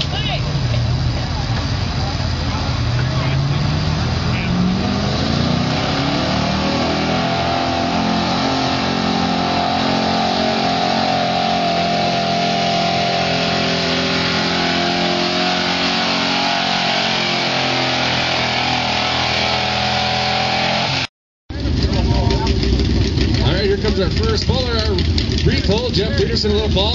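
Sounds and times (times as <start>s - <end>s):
truck engine at full throttle: 0.0s - 26.9s.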